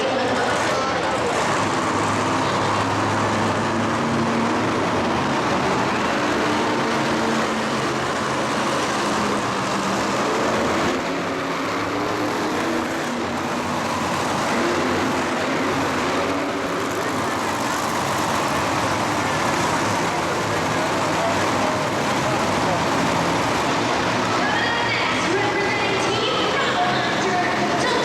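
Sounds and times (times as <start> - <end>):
arena crowd din: 0.0 - 28.0
loud vehicle engine running: 0.0 - 28.0.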